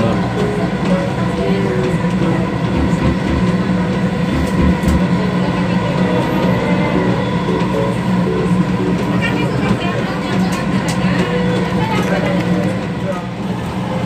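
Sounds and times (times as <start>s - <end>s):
constant hum: 0.0s - 14.0s
train wheels rumbling: 0.0s - 14.0s.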